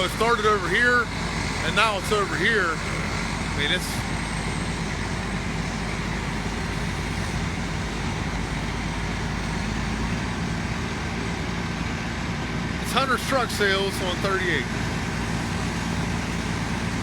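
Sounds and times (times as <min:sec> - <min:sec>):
fire truck engine running: 0:00.0 - 0:17.0.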